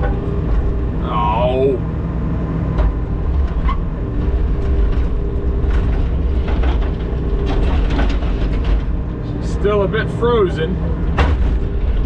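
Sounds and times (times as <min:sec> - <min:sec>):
loader engine running: 0:00.0 - 0:12.0
steady whine: 0:00.0 - 0:12.0.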